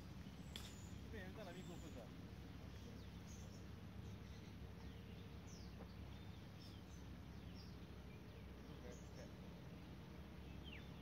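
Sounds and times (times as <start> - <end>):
bird chirps: 0.0 - 11.0
low steady rumble: 0.0 - 11.0.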